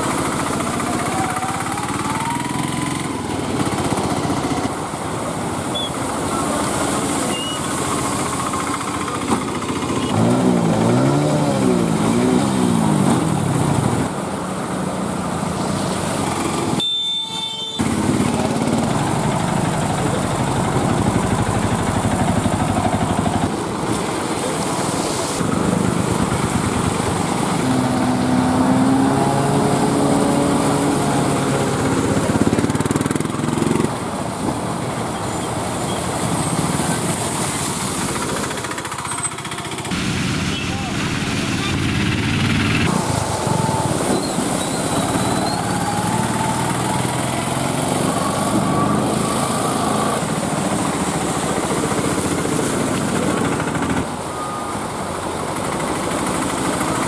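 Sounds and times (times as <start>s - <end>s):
auto-rickshaw engines running: 0.0s - 57.0s
wheels splashing water: 0.0s - 57.0s.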